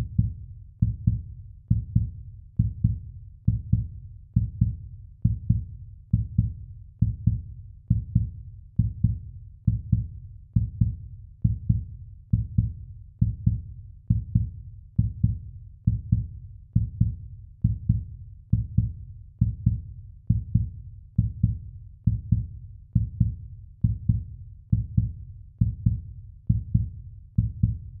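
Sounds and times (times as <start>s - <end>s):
heartbeat thumps: 0.0s - 28.0s.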